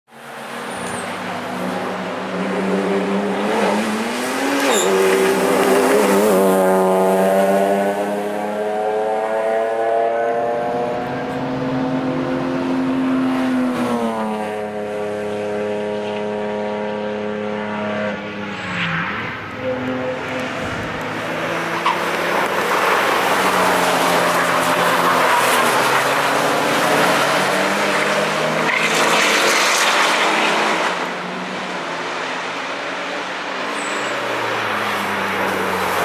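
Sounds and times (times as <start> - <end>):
car engine at high revs: 0.2 - 36.0.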